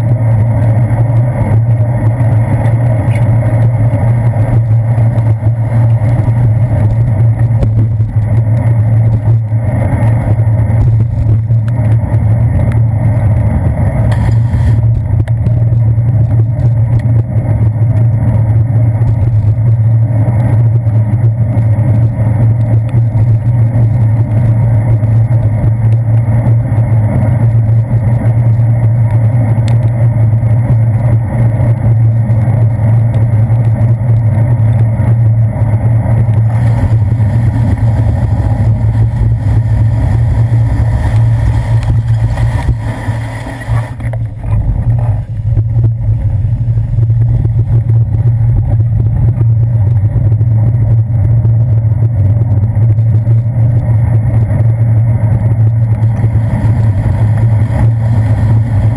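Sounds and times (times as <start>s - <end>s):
steady low hum: 0.0s - 58.9s
wind and road rumble: 0.0s - 58.9s.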